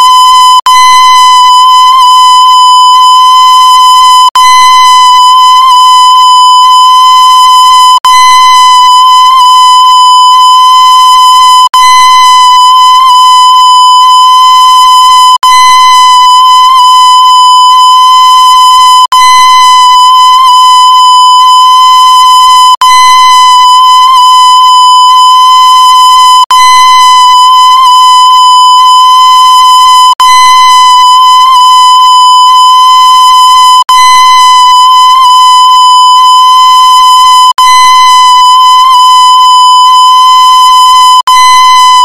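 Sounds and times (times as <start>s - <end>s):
high-pitched electronic beep: 0.0s - 42.0s.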